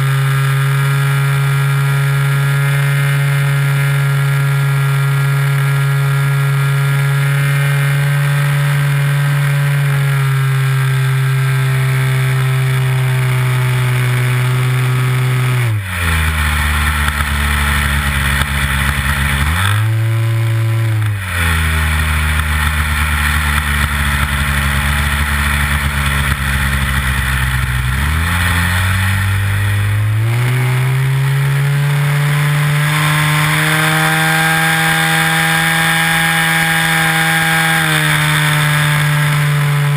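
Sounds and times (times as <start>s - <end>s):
model airplane engine revving: 0.0s - 39.9s.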